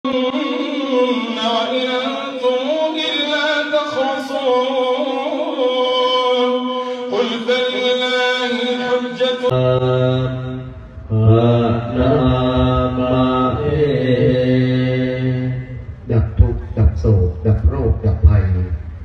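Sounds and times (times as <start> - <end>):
man chanting into microphone: 0.0 - 18.8.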